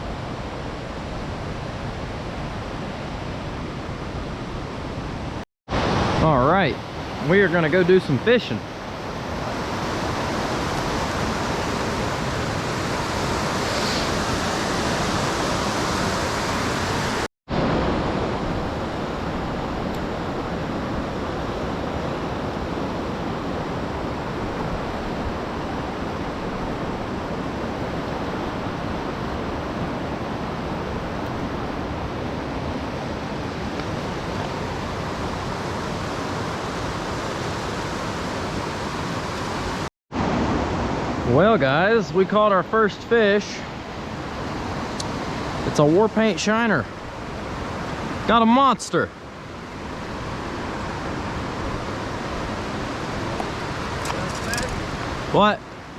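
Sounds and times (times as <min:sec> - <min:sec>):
creek water rushing: 0:00.0 - 0:55.9.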